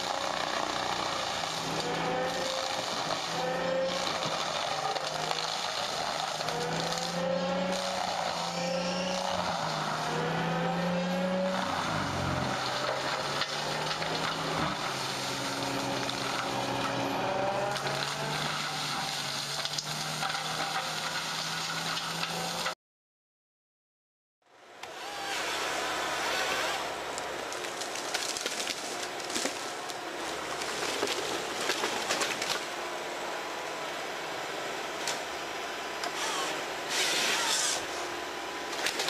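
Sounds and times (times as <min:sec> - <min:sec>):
diesel engine under load: 0:00.0 - 0:22.8, 0:24.8 - 0:39.0
mulching head shredding tree trunk: 0:00.0 - 0:22.8, 0:24.8 - 0:35.4, 0:36.0 - 0:39.0.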